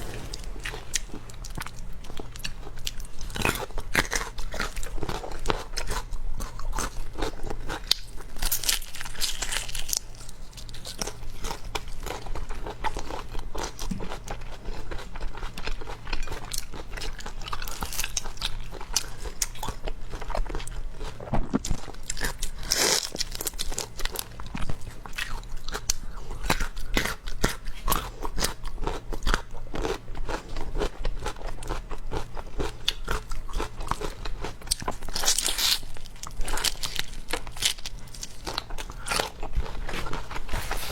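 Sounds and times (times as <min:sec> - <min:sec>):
crisp crunching and chewing: 0:00.1 - 0:40.9.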